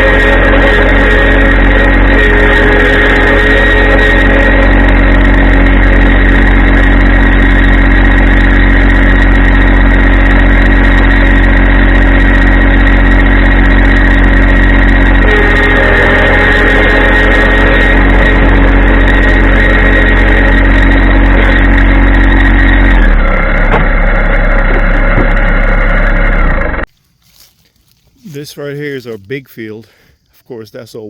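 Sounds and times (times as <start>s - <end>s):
tractor diesel engine running: 0.0s - 30.2s.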